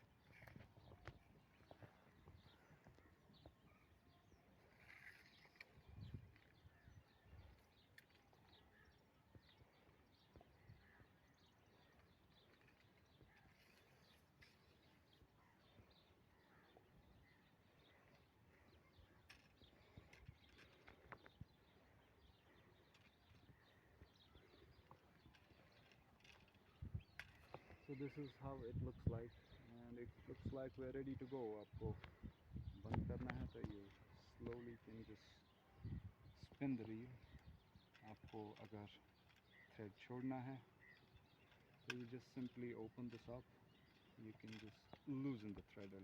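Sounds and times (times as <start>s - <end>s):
faint bird chirps: 0.0s - 46.0s.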